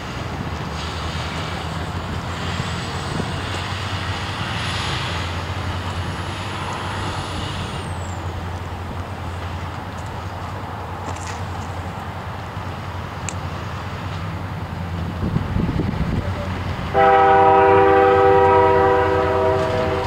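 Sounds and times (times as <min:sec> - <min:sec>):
bus diesel engine humming: 0:00.0 - 0:20.0
cars driving past: 0:00.0 - 0:20.0.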